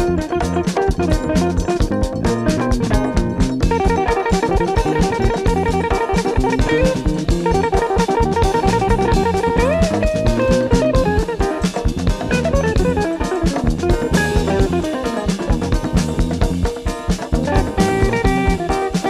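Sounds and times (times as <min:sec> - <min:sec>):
jazz-funk instrumental: 0:00.0 - 0:19.0.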